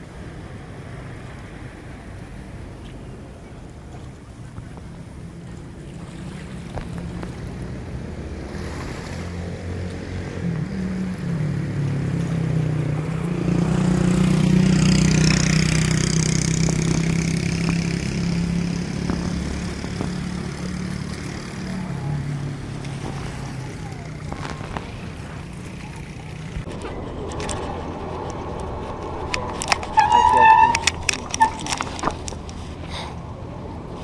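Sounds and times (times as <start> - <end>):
vehicle engine passing by: 6.0 - 34.0.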